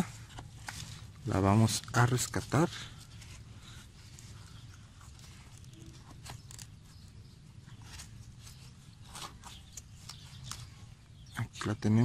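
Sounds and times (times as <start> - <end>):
glove scraping and rustling: 0.0 - 11.0.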